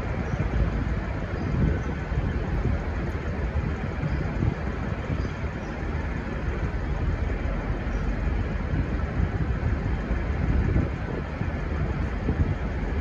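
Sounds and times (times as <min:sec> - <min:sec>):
train carriages rumbling: 0:00.0 - 0:13.0
wind buffeting microphone: 0:00.0 - 0:13.0.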